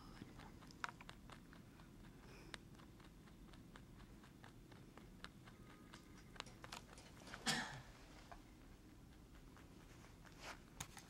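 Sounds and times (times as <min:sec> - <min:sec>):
rabbit chewing food: 0:00.0 - 0:11.0.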